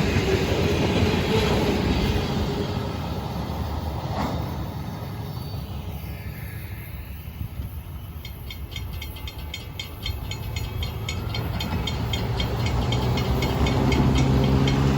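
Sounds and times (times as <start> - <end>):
train cars rumbling on rails: 0.0 - 6.3, 7.1 - 14.9.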